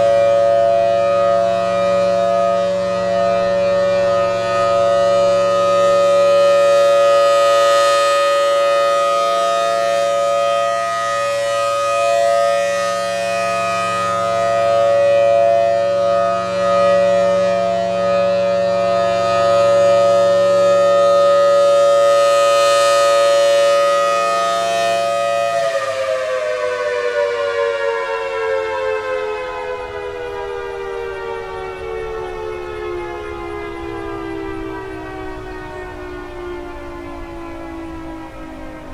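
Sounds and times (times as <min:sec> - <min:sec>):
warning siren: 0:00.0 - 0:38.9.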